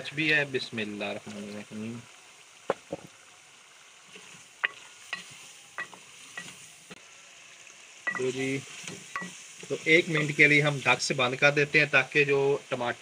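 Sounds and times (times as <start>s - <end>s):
faint sizzle of frying: 0.0s - 13.0s.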